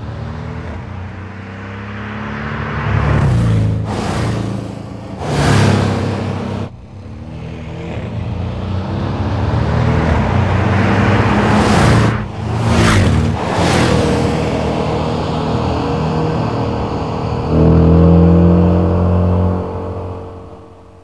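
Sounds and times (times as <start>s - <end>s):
car engine accelerating past: 0.0s - 21.0s.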